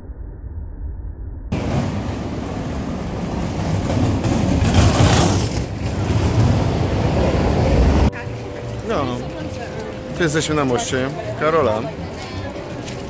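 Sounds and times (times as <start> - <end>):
city street rushing rumble: 0.1 - 13.0.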